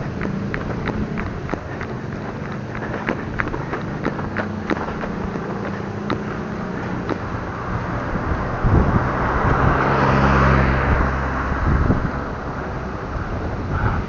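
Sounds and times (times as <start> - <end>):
car passing by: 0.0 - 14.0.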